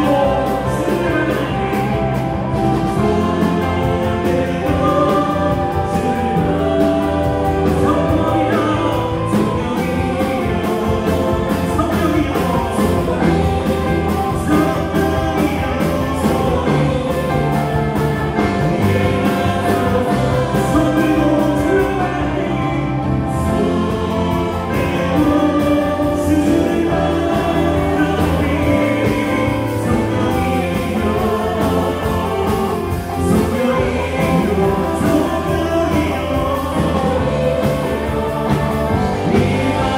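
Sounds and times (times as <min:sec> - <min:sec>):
bass guitar: 0:00.0 - 0:39.9
drum kit beat: 0:00.0 - 0:39.9
electric guitar: 0:00.0 - 0:39.9
keyboards: 0:00.0 - 0:39.9
people singing: 0:00.0 - 0:39.9.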